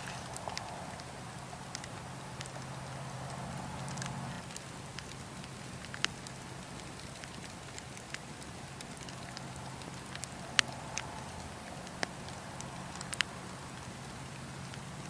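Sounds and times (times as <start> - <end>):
burning wood crackling: 0.0 - 15.0
fire low rumble: 0.0 - 15.0.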